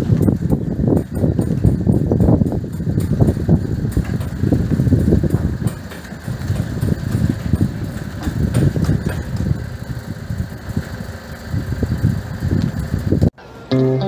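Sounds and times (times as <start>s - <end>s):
motor rumbling: 0.0s - 14.0s.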